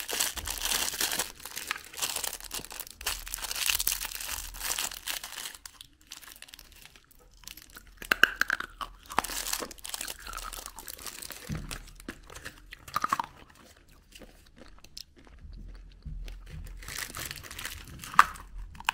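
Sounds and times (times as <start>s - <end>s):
plastic candy box clicks and crunches: 0.0s - 13.4s, 16.2s - 18.9s.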